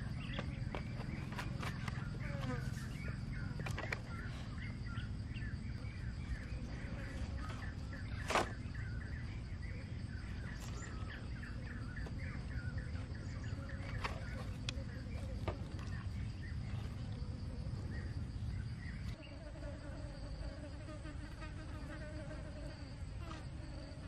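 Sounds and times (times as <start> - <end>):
birds chirping: 0.0 - 19.4.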